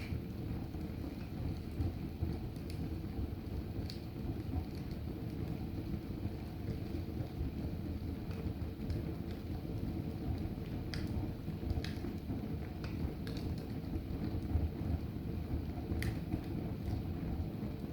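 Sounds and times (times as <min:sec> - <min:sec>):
fire burning with low rumble: 0:00.0 - 0:17.9
fire crackles and pops: 0:00.0 - 0:17.9.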